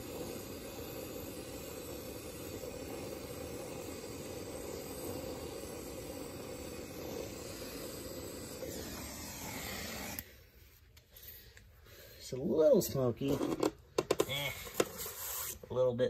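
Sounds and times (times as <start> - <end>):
torch flame hissing: 0.0 - 15.7.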